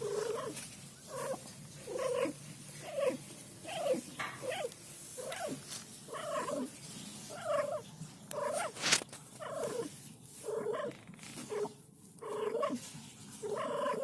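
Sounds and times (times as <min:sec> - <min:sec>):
cat purring with trills: 0:00.0 - 0:14.0.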